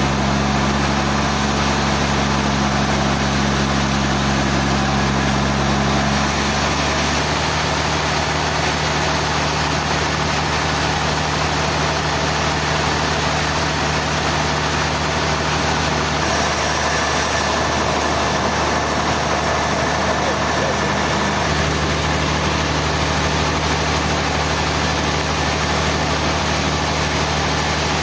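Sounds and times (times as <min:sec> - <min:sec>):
machine engine humming: 0:00.0 - 0:28.0.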